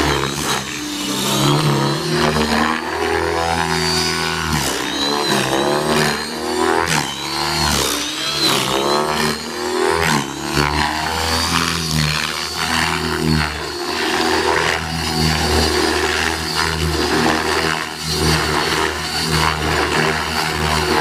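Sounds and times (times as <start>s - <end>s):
rc helicopter motor and rotor: 0.0s - 21.0s.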